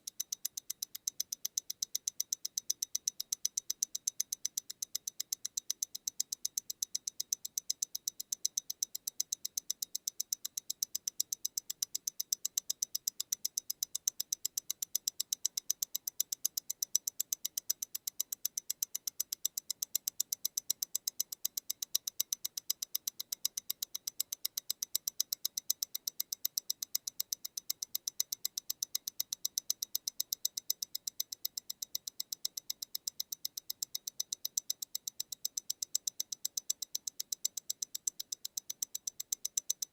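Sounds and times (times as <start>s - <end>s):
watch ticking: 0.0s - 39.9s.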